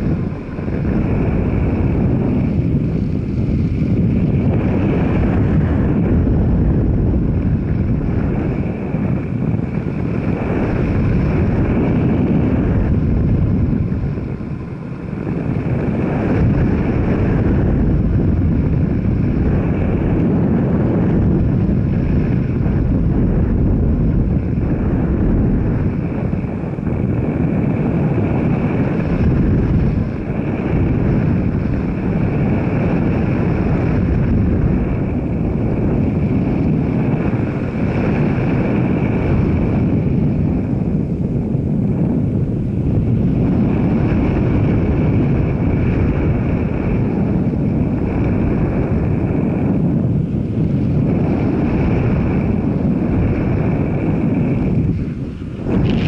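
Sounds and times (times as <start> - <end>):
vehicle running noise: 0.0 - 56.0
wind rushing over microphone: 0.0 - 56.0.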